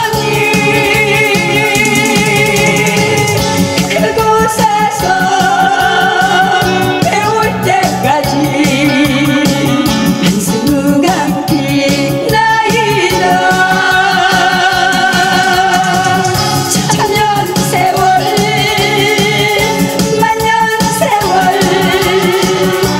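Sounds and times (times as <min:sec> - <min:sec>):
backing music with steady beat: 0:00.0 - 0:22.9
woman singing through microphone: 0:00.0 - 0:22.9.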